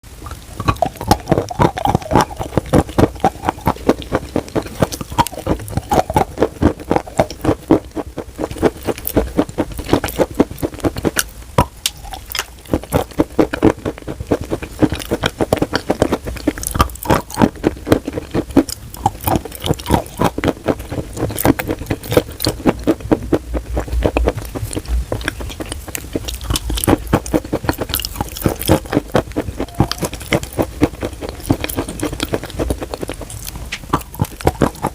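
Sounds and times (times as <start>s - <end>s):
chalk being chewed: 0.3s - 34.9s.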